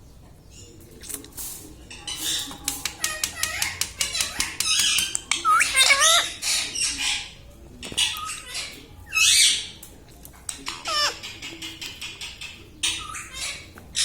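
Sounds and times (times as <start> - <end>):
parrot squawking and chattering: 1.9 - 9.8, 10.5 - 14.0.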